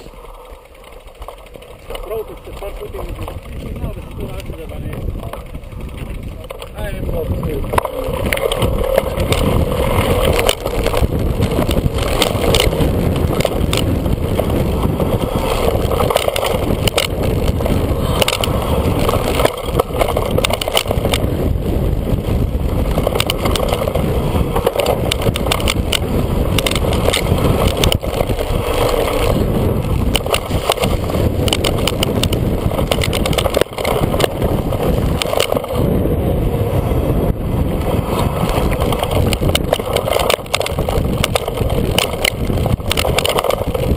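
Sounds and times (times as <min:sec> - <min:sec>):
bike clattering over rough trail: 0:00.0 - 0:43.9
wind rush on microphone: 0:01.9 - 0:43.9.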